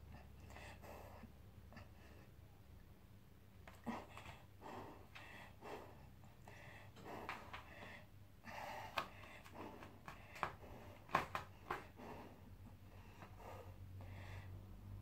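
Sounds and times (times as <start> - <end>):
low steady hum: 0.0 - 15.0
person breathing in and out: 0.1 - 2.4, 3.7 - 15.0.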